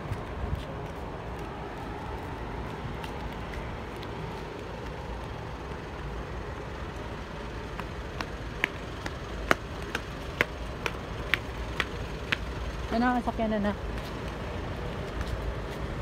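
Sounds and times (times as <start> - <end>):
footsteps on concrete: 0.0 - 5.8, 7.6 - 12.6, 13.8 - 16.0
traffic hum: 0.0 - 16.0.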